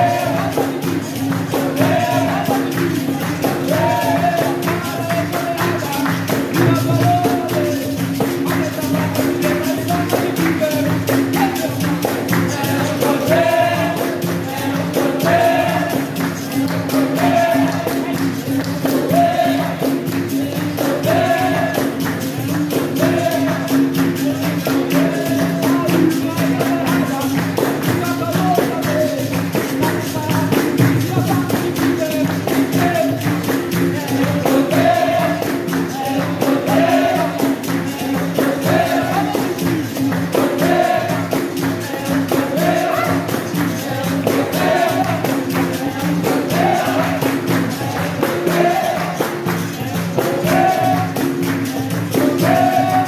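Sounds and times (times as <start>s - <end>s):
call-and-response group singing: 0.0s - 53.0s
drumming in a steady rhythm: 0.0s - 53.0s
pandeiro jingles: 0.0s - 53.0s.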